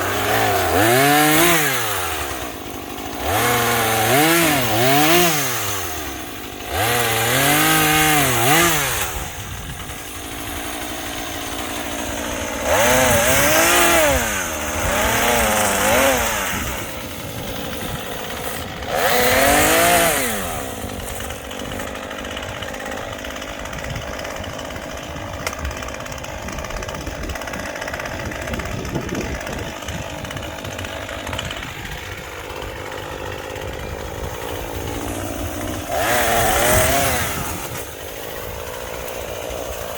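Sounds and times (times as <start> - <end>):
chainsaw engine revving and idling: 0.0 - 39.9.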